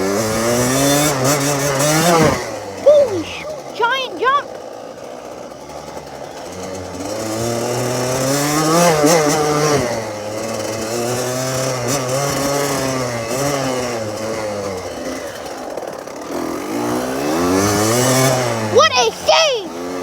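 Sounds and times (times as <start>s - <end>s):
dirtbike engine revving: 0.0s - 20.0s.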